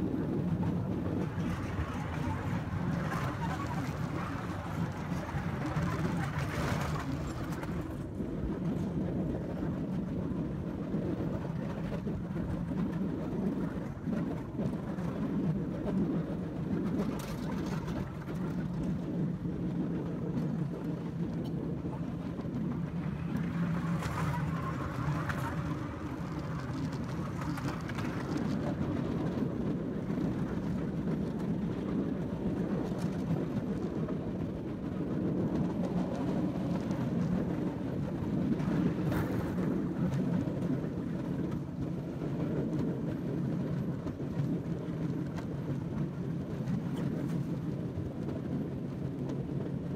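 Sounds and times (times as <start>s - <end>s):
wheels clicking on track: 0.0s - 49.9s.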